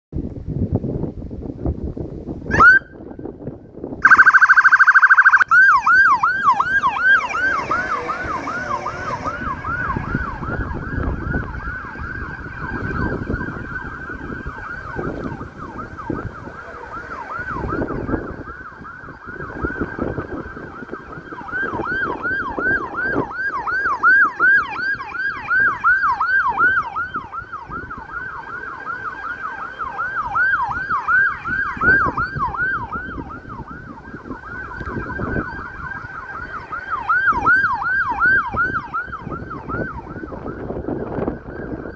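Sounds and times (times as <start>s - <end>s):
car engine and tyre noise: 0.2s - 41.9s
police siren yelp: 2.5s - 3.1s, 4.0s - 41.9s.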